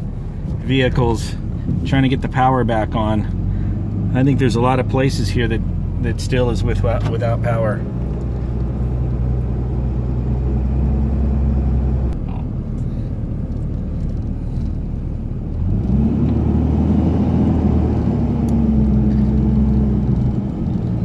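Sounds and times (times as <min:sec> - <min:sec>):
car engine: 0:00.0 - 0:21.0
road noise: 0:00.0 - 0:21.0.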